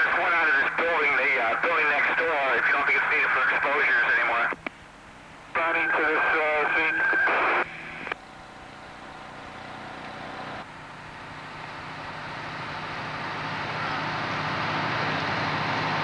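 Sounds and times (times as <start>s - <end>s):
fire truck engine running: 0.0s - 16.0s.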